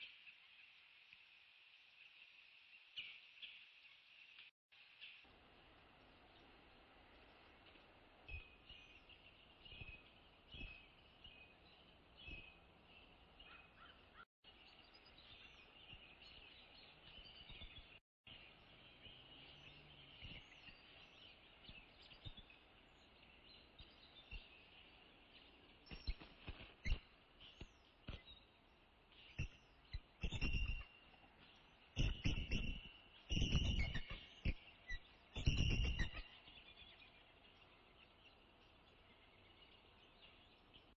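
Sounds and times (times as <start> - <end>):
small birds chirping: 1.8 - 40.9.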